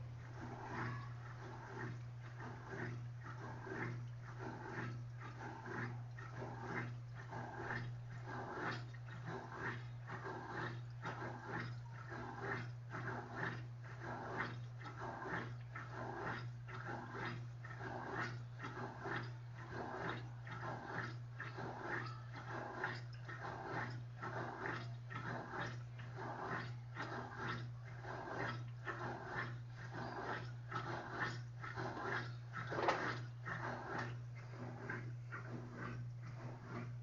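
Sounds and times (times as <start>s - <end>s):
washing machine agitating: 0.0s - 37.0s.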